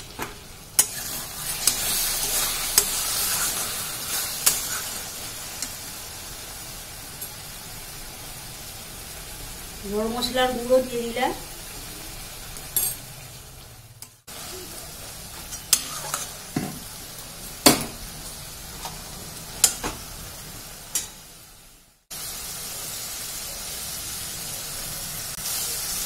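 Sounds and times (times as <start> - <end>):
curry sizzling in a wok: 0.0 - 26.0.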